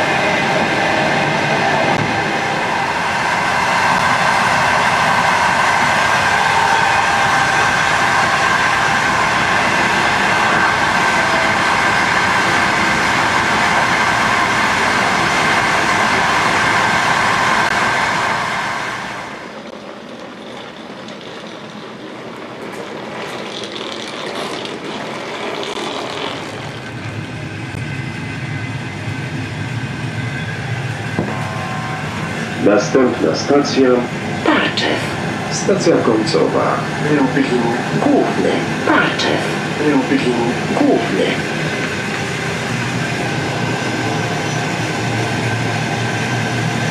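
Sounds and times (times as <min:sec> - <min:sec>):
train rumble: 0:00.0 - 0:46.9
train wheel and rail noise: 0:00.0 - 0:46.9.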